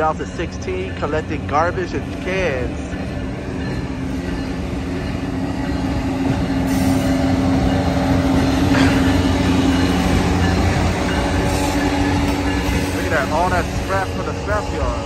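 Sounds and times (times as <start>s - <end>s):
diesel locomotive passing: 0.0s - 15.0s
freight cars rolling on rails: 0.0s - 15.0s.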